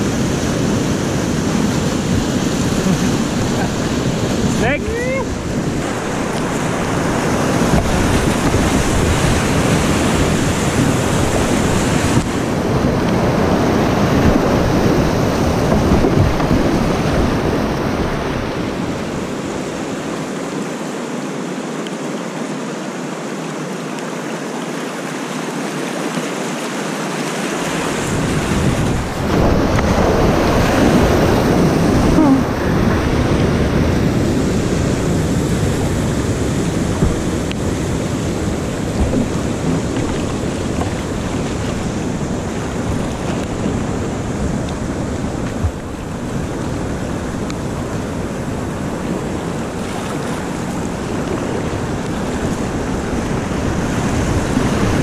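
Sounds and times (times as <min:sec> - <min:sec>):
wind buffeting microphone: 0:00.0 - 0:19.8, 0:27.6 - 0:55.0
water splashing around kayak: 0:00.0 - 0:55.0
whitewater rushing: 0:00.0 - 0:55.0.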